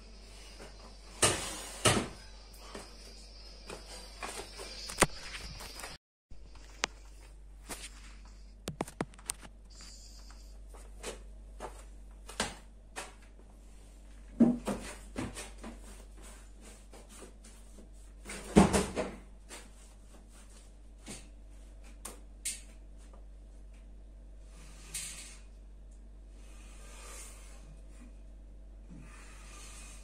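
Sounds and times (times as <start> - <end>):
steady low hum: 0.0 - 18.5, 19.2 - 30.0.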